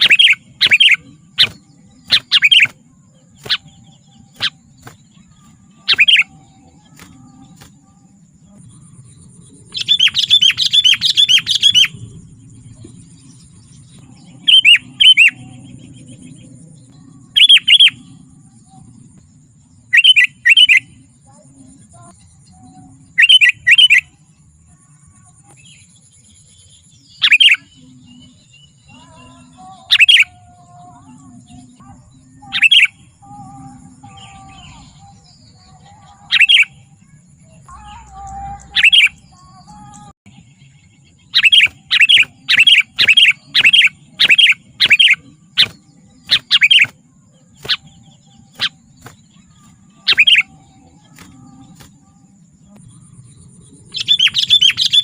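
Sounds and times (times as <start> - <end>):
bird chirping calls: 0.0 - 19.2, 19.8 - 24.2, 25.4 - 55.0.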